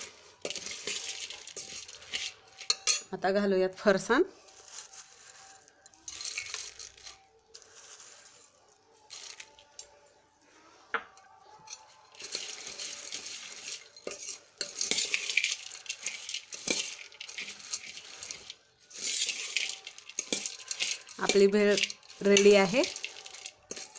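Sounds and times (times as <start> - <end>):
puffed rice rustling: 0.0 - 3.0, 4.3 - 23.9.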